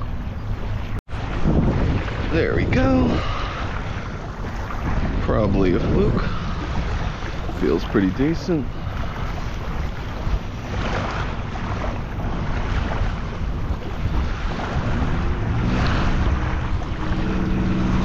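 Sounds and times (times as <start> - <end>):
small waves lapping: 0.0 - 18.0
steady motor hum: 0.0 - 18.0
wind rumbling on microphone: 0.0 - 18.0.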